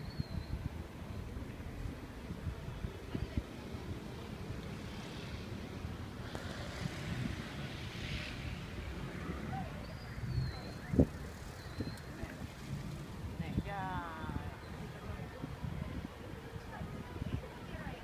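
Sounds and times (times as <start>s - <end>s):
distant traffic rumble: 0.0s - 18.0s
wind on microphone: 0.0s - 18.0s.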